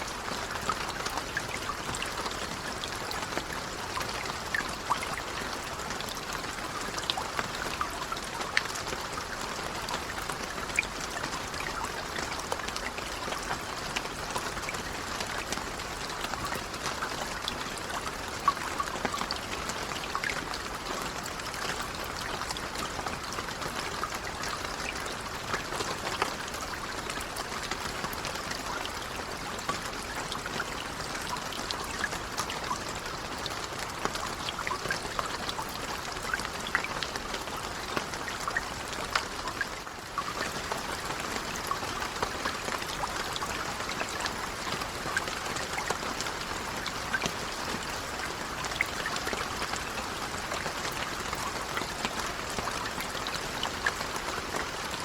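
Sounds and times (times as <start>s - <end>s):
gentle rain falling: 0.0s - 55.0s
raindrops ticking: 0.0s - 55.0s.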